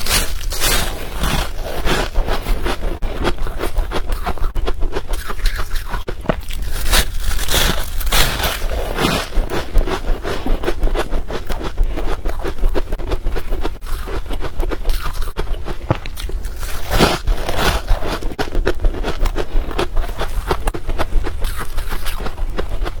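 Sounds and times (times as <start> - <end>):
person chewing crushed ice: 0.0 - 23.0.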